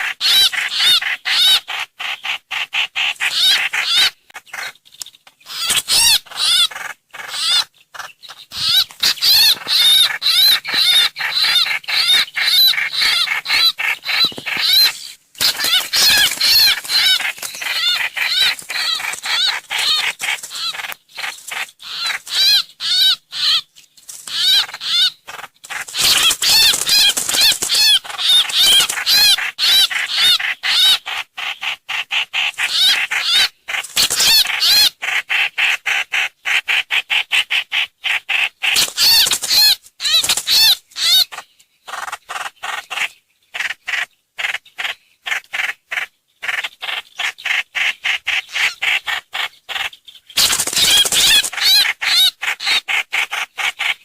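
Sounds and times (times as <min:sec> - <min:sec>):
bird chattering call: 0:00.0 - 0:04.8, 0:05.4 - 0:23.7, 0:24.3 - 0:54.0.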